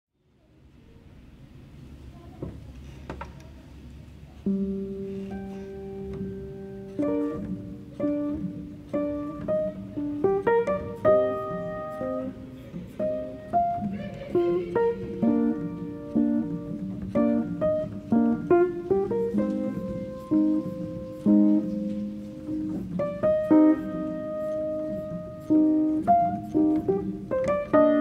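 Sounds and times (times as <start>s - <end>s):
plucked guitar-like melody: 4.4s - 28.0s.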